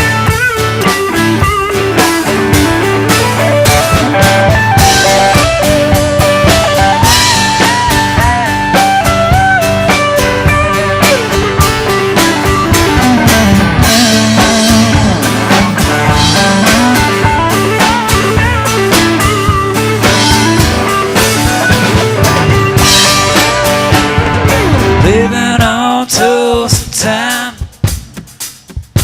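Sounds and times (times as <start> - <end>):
bass: 0.0 - 29.0
steady drum beat: 0.0 - 29.0.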